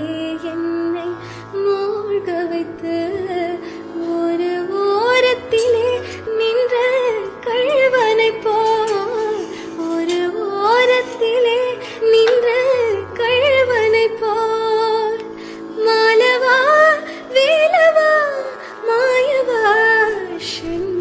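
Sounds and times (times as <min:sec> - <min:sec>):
woman singing over light accompaniment: 0:00.0 - 0:21.0.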